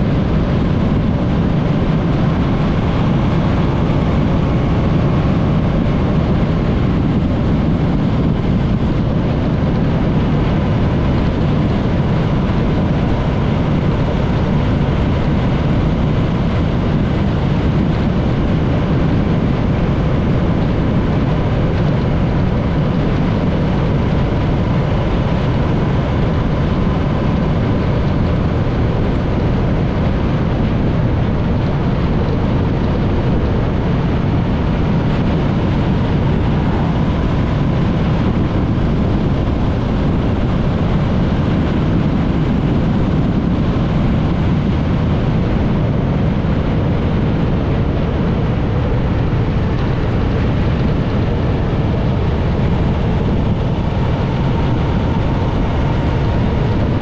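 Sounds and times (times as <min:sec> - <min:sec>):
wind rush while riding: 0:00.0 - 0:57.0.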